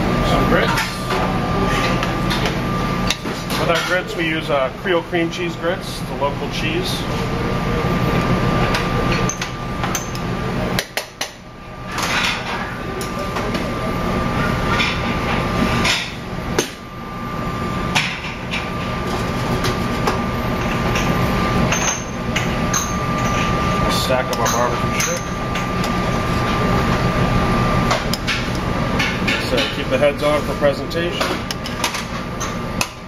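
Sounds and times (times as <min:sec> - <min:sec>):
kitchen hum: 0:00.0 - 0:33.0.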